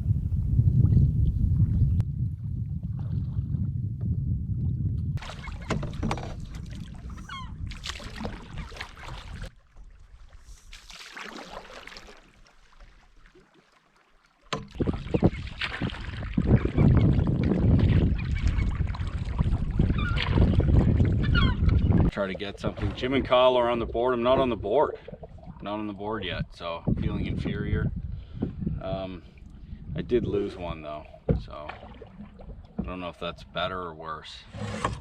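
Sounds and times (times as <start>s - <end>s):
wind rumbling on microphone: 0.0s - 10.8s, 14.6s - 33.7s
water sounds from canoe: 0.8s - 35.0s.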